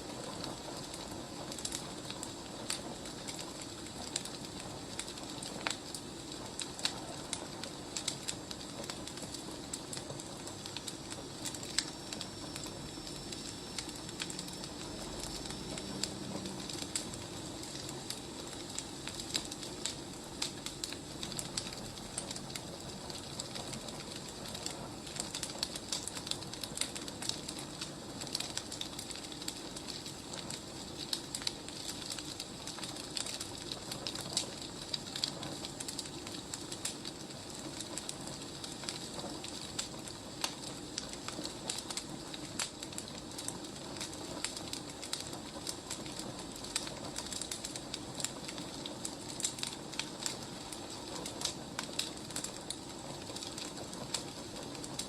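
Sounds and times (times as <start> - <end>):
firewood burning and crackling: 0.0 - 55.0.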